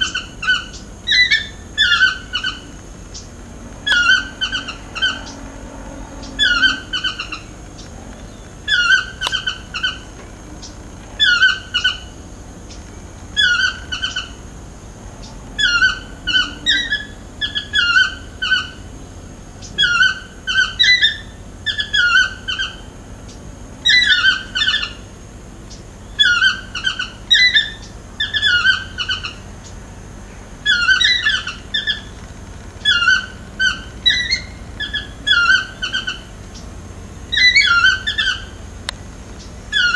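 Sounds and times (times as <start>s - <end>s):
toucan yelping call: 0.0s - 14.6s, 15.2s - 19.0s, 19.6s - 29.8s, 30.6s - 32.2s, 32.8s - 38.8s, 39.4s - 39.9s
faint high whine: 0.0s - 39.9s.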